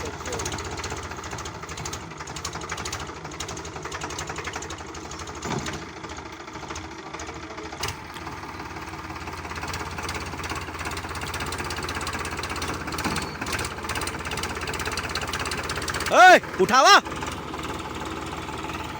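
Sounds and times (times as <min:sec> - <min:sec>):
tractor diesel engine clattering: 0:00.0 - 0:18.9.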